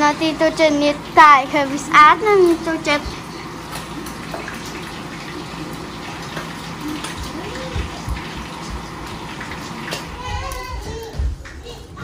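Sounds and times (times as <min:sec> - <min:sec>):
fish deep-frying in hot oil: 0:00.9 - 0:10.6.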